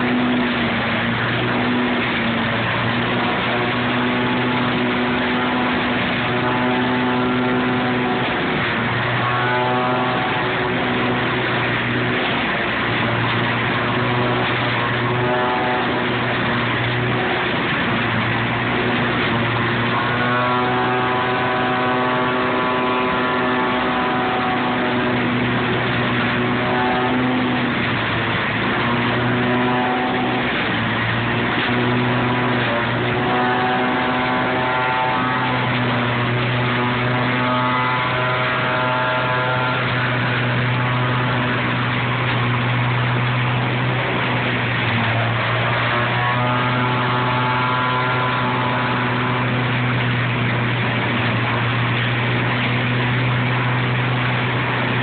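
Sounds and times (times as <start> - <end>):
leaf vacuum engine and fan: 0.0 - 55.0.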